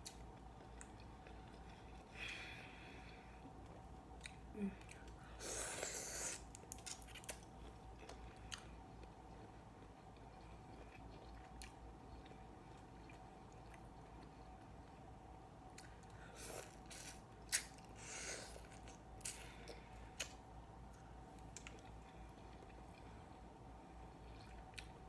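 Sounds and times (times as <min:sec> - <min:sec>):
chewing with clicks and smacks: 0:00.0 - 0:02.1, 0:03.0 - 0:05.2, 0:06.4 - 0:15.1, 0:15.7 - 0:18.0, 0:18.6 - 0:23.3, 0:24.2 - 0:25.0
faint steady hum: 0:00.0 - 0:25.0.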